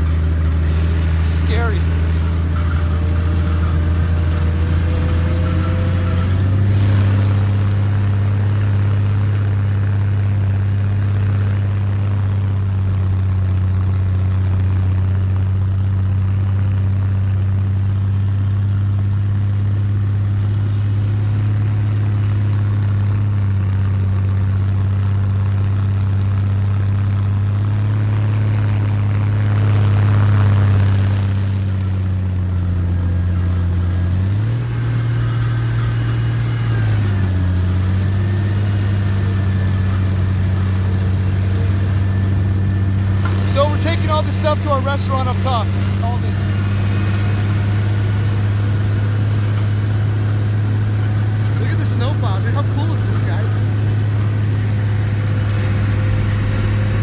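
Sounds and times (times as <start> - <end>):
snowcat engine droning: 0.0 - 57.0.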